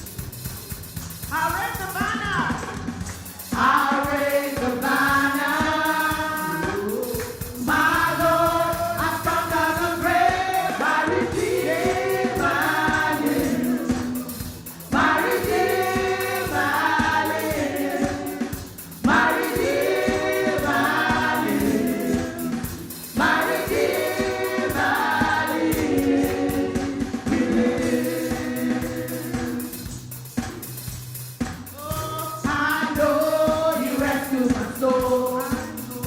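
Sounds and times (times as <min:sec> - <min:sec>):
group singing gospel song: 0:02.6 - 0:30.6, 0:31.8 - 0:36.0
sustained instrumental backing: 0:02.6 - 0:31.8.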